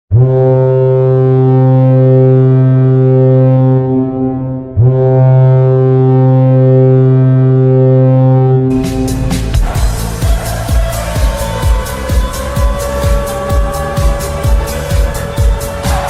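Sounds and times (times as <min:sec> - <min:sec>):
goal horn blasts: 0:00.1 - 0:16.0.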